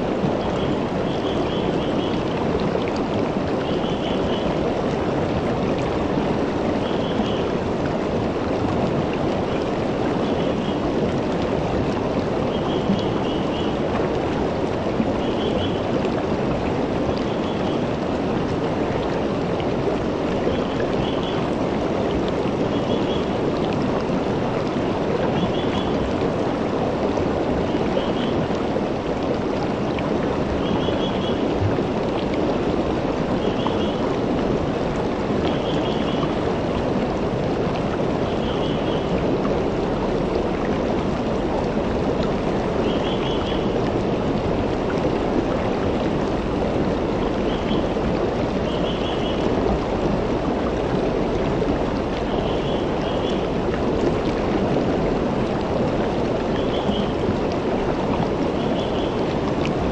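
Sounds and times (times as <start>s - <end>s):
creek flowing over stones: 0.0s - 59.9s.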